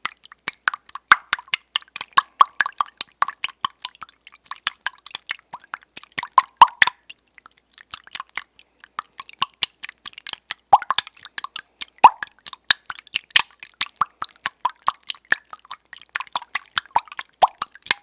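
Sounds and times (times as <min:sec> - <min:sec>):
wet sticky clicks and pops: 0:00.0 - 0:18.0.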